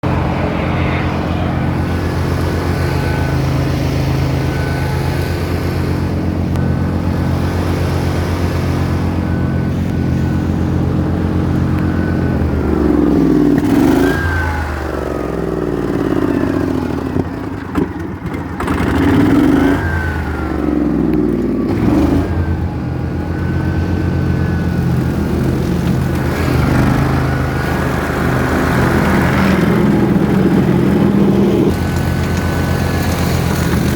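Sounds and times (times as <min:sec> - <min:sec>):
mowing machine engine running: 0:00.0 - 0:33.9.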